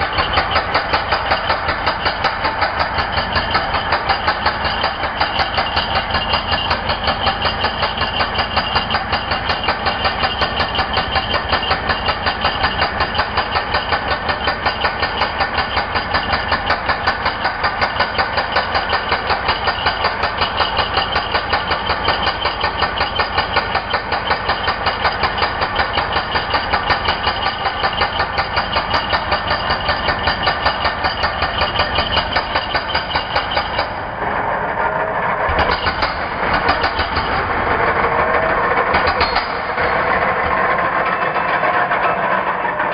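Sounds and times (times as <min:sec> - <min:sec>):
electric concrete breaker hammering: 0:00.0 - 0:34.5, 0:35.4 - 0:42.9.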